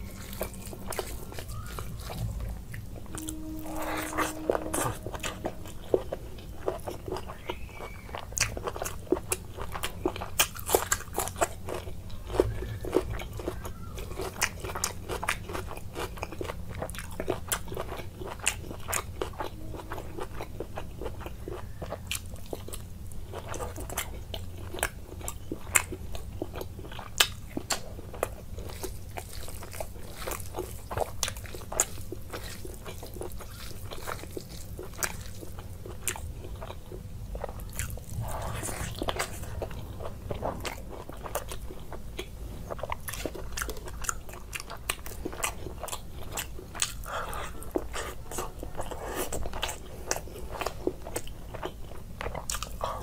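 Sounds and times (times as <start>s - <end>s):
wet chewing and lip-smacking: 0.0s - 4.0s, 5.9s - 53.0s.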